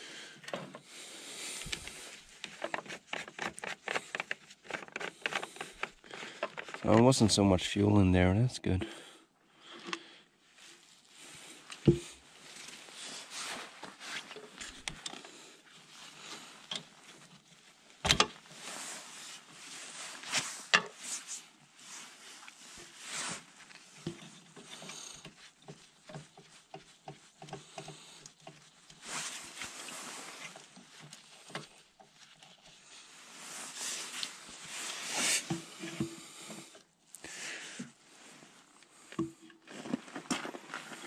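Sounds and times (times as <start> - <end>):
rustling of clothing: 0.9 - 7.5, 10.5 - 41.0.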